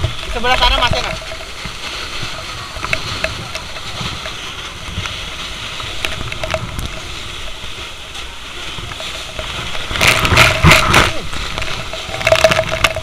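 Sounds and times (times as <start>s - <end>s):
fire hose water spraying: 0.0s - 13.0s
rush of noise: 0.0s - 13.0s.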